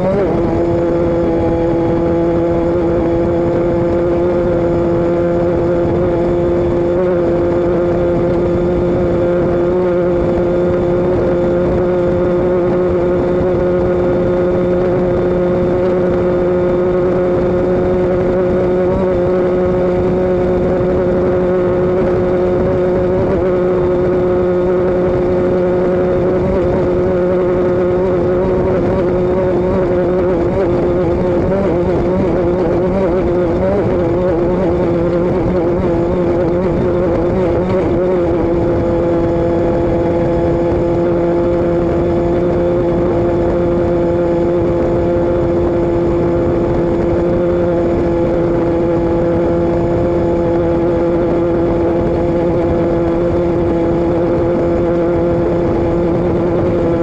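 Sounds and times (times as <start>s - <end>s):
vehicle engine running steadily: 0.0s - 57.0s.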